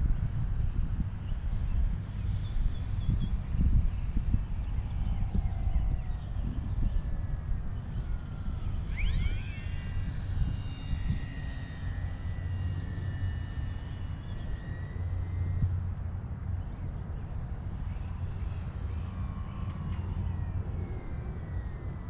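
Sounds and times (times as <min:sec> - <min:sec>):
electric motor and propeller whining: 0:00.0 - 0:22.0
wind rumble on microphone: 0:00.0 - 0:22.0.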